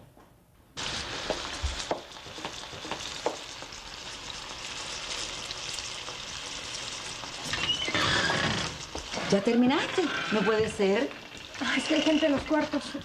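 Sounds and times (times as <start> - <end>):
steak sizzling in a pan: 0.8 - 13.0.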